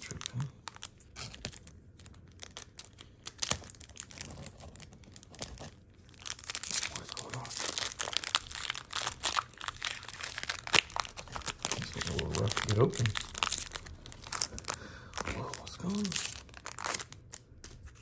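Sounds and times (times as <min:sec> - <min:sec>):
foil wrapper crinkling and tearing: 0:00.0 - 0:18.0.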